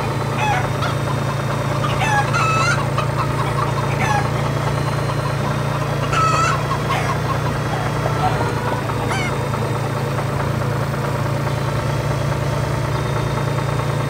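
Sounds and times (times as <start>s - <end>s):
cartoon chickens clucking: 0.0s - 11.5s
low engine hum: 0.0s - 14.0s.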